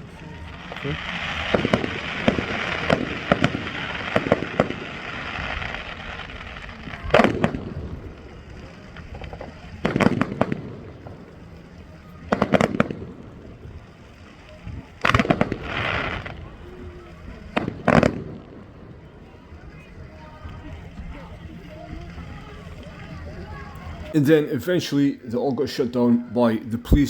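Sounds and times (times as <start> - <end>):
fireworks sharp bangs: 0.0 - 24.9
fireworks crackling volley: 0.0 - 27.0.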